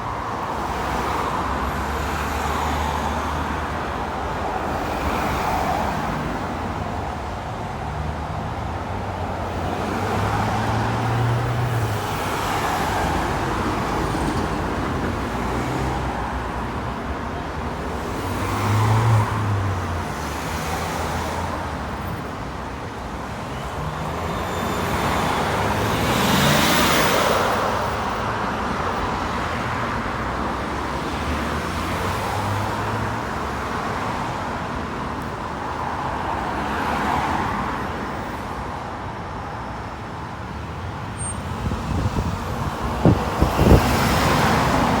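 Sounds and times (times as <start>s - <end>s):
vehicles passing: 0.0s - 45.0s.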